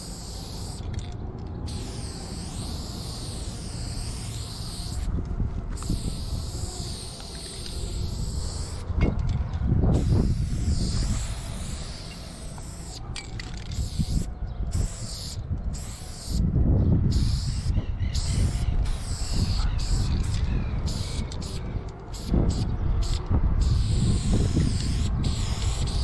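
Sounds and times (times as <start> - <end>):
spray paint can hissing: 0.0 - 1.1, 1.7 - 5.1, 5.7 - 8.9, 9.9 - 16.4, 17.1 - 26.0.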